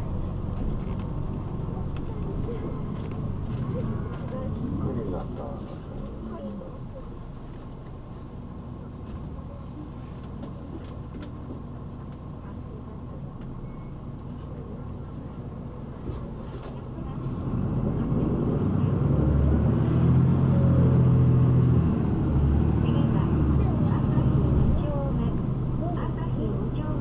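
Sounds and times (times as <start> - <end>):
bus engine running: 0.0 - 27.0.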